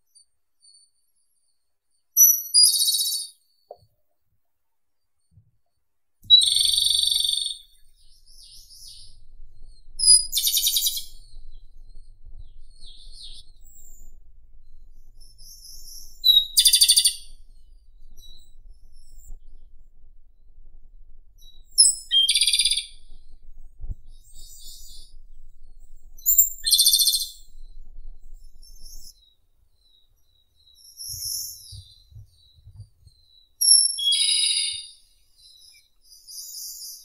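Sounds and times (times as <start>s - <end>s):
bird song with rattling trill: 0.1s - 3.7s, 6.3s - 20.5s, 21.3s - 37.0s
soft bird twittering: 6.3s - 20.5s, 21.4s - 37.0s.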